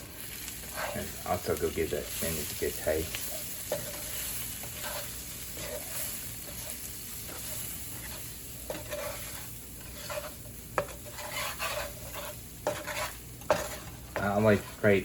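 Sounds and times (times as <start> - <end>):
vegetables sizzling in a frying pan: 0.0 - 15.0
wooden spoon scraping a pan: 0.4 - 15.0.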